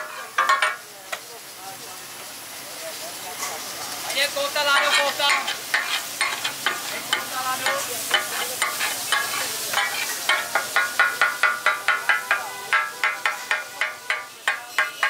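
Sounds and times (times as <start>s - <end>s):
spatula clanging on iron griddle: 0.0s - 1.2s, 3.4s - 15.0s
meat sizzling: 0.0s - 15.0s.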